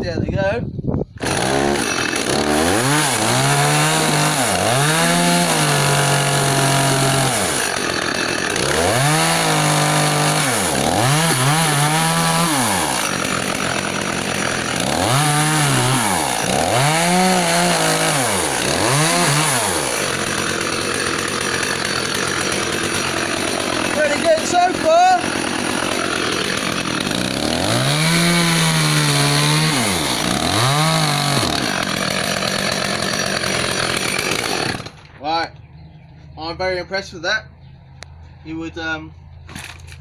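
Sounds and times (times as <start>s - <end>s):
chainsaw revving: 1.2s - 35.1s.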